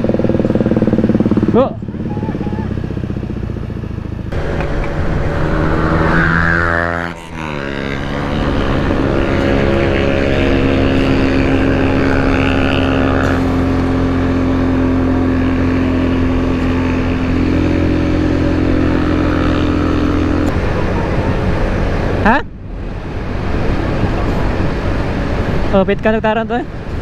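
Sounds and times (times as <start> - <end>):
motorcycle engine running: 0.0 - 22.4
wind rush: 4.3 - 27.0.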